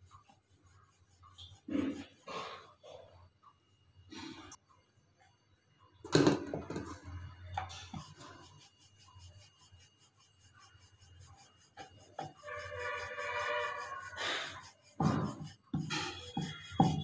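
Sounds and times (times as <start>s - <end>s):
rolling pin rolling dough: 0.0s - 3.6s, 6.1s - 17.0s.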